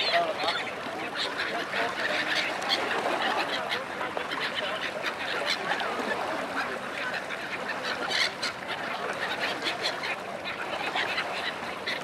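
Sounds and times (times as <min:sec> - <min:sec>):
gulls and ducks squawking and quacking: 0:00.0 - 0:12.0.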